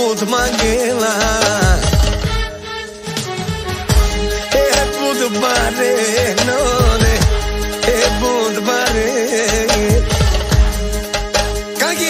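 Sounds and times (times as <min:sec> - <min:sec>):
song with steady beat: 0:00.0 - 0:12.0.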